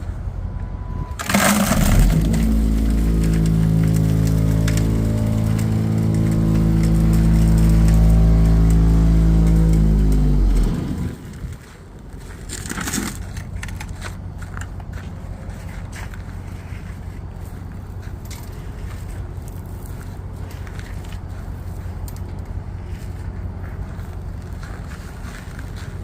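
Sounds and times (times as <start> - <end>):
crunching and scraping: 0.0 - 26.0
engine running: 0.0 - 26.0.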